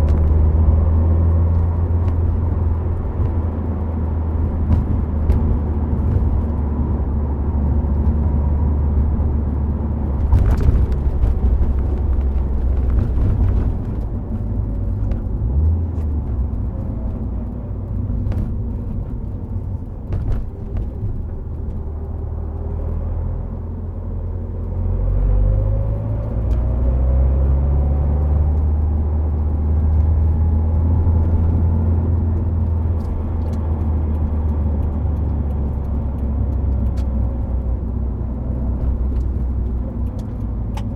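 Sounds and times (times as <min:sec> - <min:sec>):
deep engine and exhaust drone: 0:00.0 - 0:40.9
tyre and road noise: 0:00.0 - 0:40.9.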